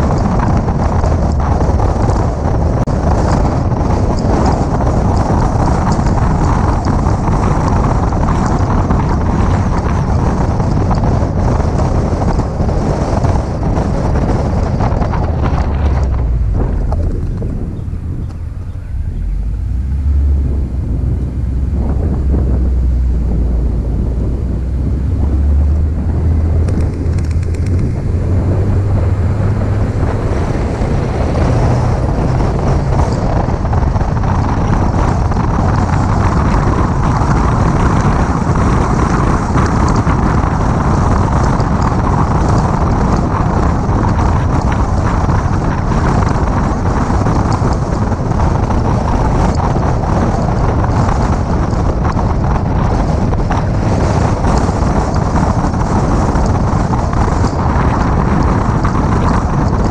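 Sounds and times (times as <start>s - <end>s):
low engine hum: 0.0s - 59.9s
wind rushing over microphone: 0.0s - 59.9s.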